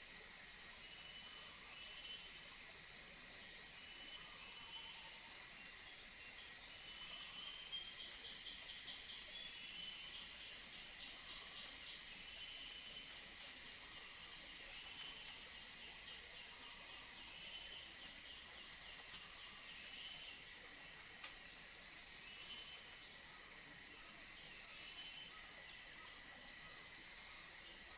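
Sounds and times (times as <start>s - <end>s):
rapid trilling insect chirps: 0.0s - 27.9s.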